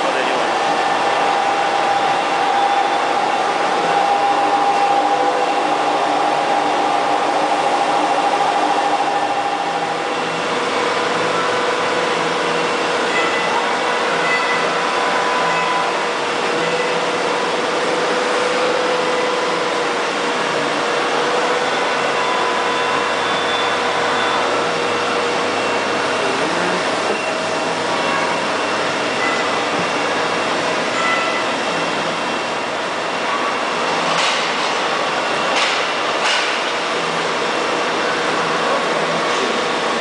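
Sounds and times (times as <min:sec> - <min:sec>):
boring mill whirring: 0:00.0 - 0:34.1.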